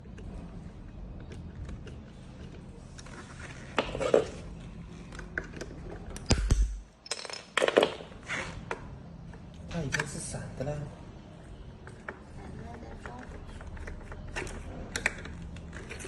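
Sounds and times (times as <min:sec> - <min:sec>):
hard objects clicking and clattering: 0:00.0 - 0:10.2, 0:11.8 - 0:16.0.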